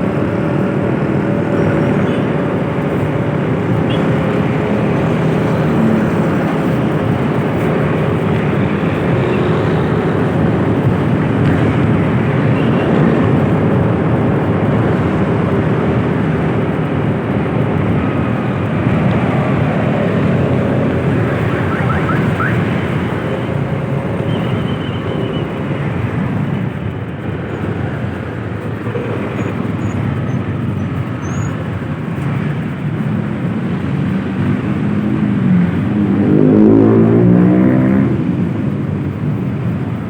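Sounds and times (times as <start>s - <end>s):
vehicle engine running: 0.0s - 37.4s
road and wind noise: 0.0s - 40.0s.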